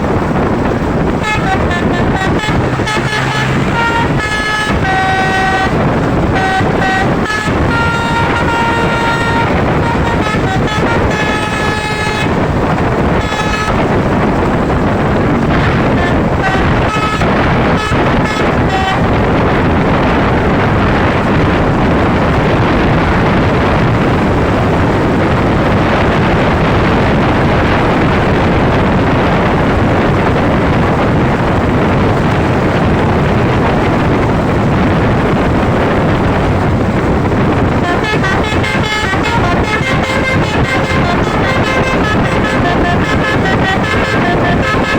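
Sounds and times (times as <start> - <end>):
bus horn playing a tune: 0.0 - 44.9
bus road noise: 0.0 - 44.9.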